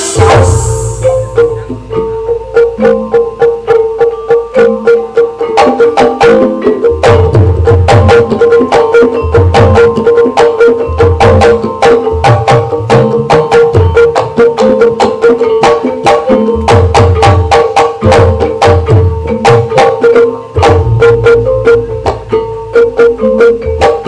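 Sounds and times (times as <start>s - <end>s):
low hand-drum strokes: 0.0s - 24.0s
percussion ensemble struck keys: 0.0s - 24.0s.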